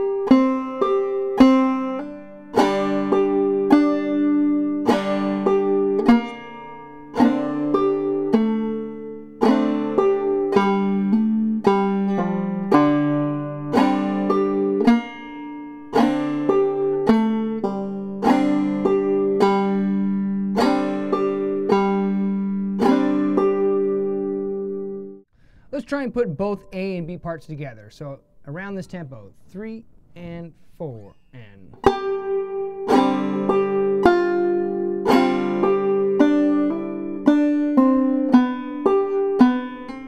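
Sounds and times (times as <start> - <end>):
banjo plucked notes: 0.0 - 25.2, 31.7 - 40.0.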